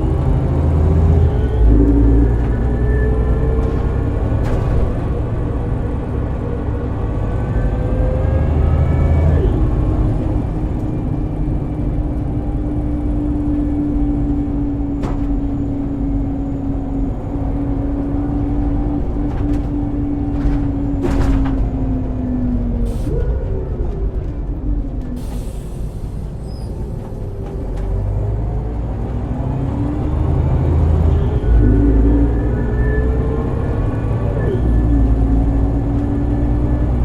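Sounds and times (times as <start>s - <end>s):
bus transmission whining: 0.0s - 37.0s
diesel engine rumble: 0.0s - 37.0s.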